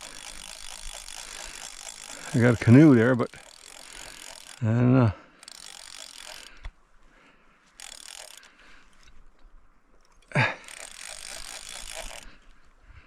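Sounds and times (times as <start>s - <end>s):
fishing reel ratcheting whir: 0.0s - 6.8s, 7.7s - 9.2s, 10.0s - 12.7s.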